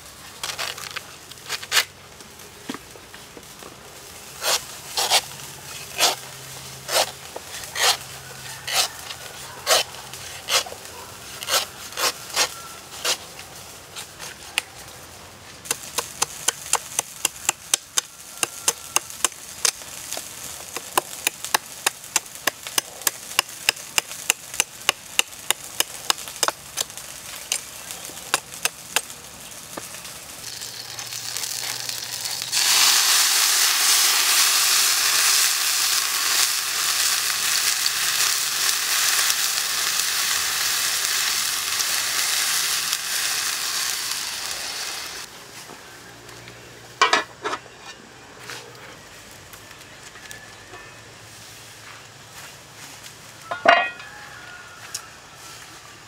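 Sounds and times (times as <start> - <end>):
loud steady hiss: 0.0 - 47.1.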